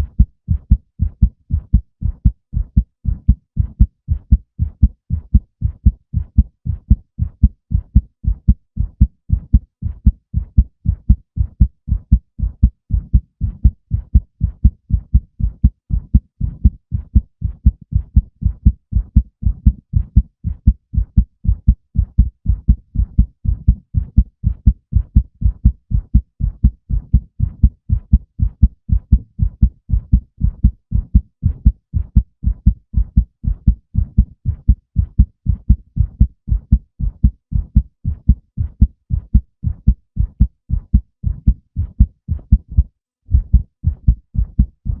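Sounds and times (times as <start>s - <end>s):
heartbeat thumps: 0.0s - 45.0s.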